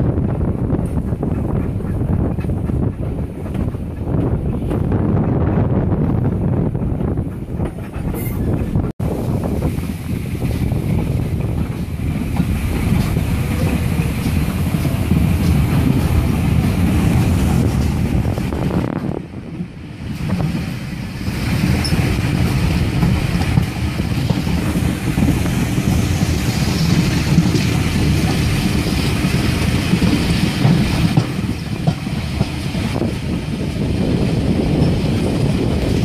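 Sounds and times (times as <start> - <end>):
train coaches rumbling on track: 0.0 - 36.0
wind on microphone: 0.0 - 36.0.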